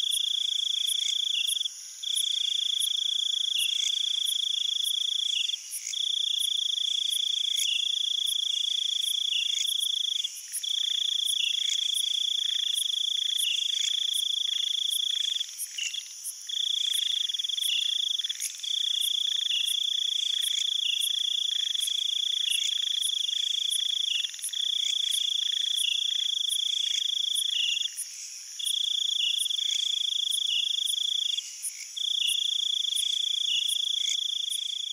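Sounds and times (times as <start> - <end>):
faint high insect chorus: 0.0 - 34.9.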